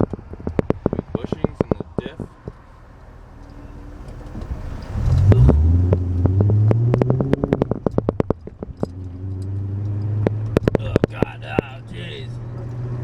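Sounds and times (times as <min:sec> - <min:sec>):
sharp rattling clicks: 0:00.0 - 0:11.8
car engine revving: 0:00.0 - 0:13.0.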